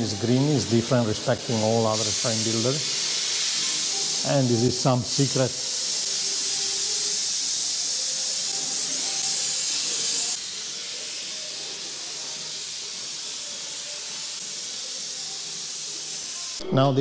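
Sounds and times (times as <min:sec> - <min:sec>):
welding torch flame hissing: 0:00.0 - 0:16.6.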